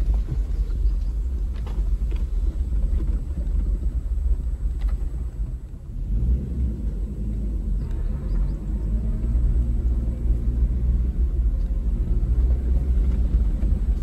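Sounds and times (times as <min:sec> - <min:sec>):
engine and tyres rumbling: 0:00.0 - 0:14.0.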